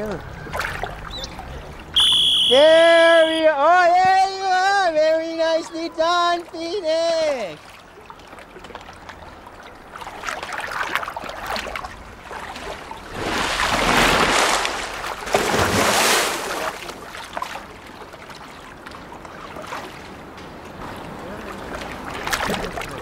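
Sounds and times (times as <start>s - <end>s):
water splashing and sloshing: 0.0s - 5.2s, 5.8s - 23.0s.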